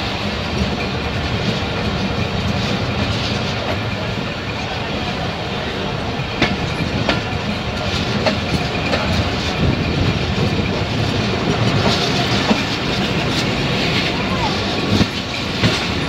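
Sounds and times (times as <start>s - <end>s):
train rumbling on track: 0.0s - 16.0s
wheels clicking over rail joints: 0.0s - 16.0s.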